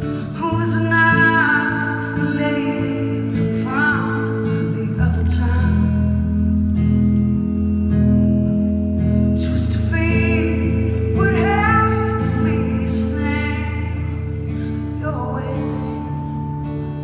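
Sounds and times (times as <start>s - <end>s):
woman singing: 0.0s - 6.6s, 9.3s - 16.7s
electric guitar: 0.0s - 17.0s.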